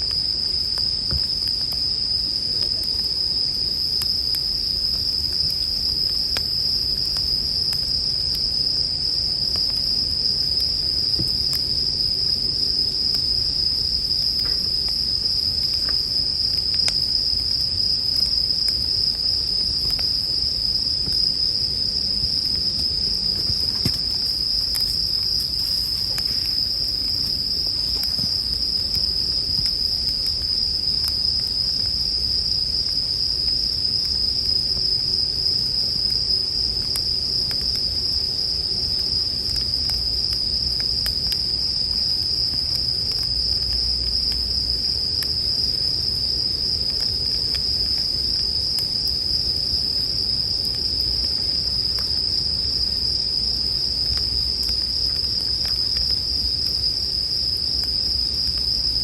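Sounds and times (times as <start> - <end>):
crickets chirping: 0.0 - 59.0
faint campfire crackles: 0.0 - 59.0.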